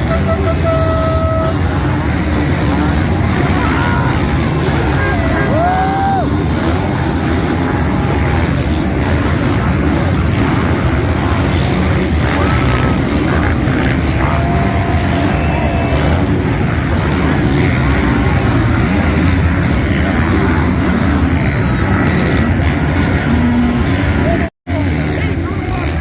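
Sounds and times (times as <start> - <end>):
motocross bike engines racing: 0.0 - 26.0.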